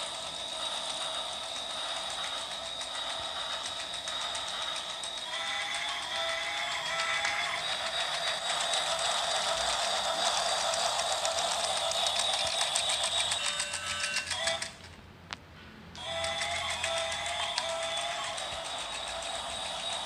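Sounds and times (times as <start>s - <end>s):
toy train motor whirring: 0.0s - 15.0s, 16.0s - 20.0s.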